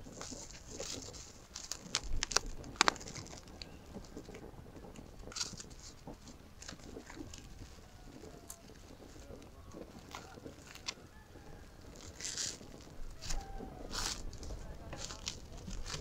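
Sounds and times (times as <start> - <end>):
plastic cling film crinkling: 0.0 - 16.0.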